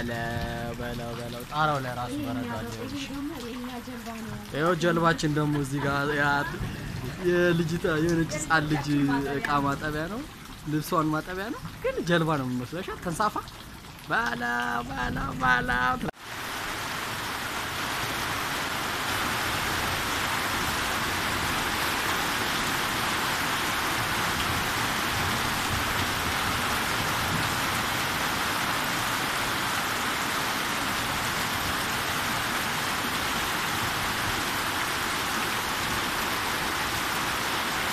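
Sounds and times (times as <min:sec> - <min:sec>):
heavy rain on ground and water: 0:00.0 - 0:37.9.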